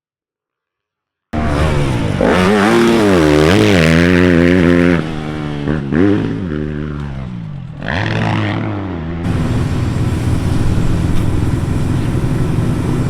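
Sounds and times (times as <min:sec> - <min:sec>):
dirt bike engine revving: 0:01.4 - 0:13.0.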